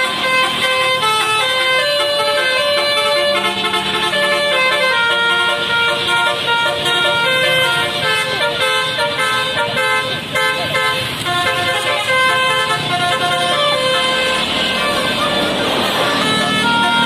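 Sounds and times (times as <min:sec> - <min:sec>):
bus horn playing a melody: 0:00.0 - 0:17.0.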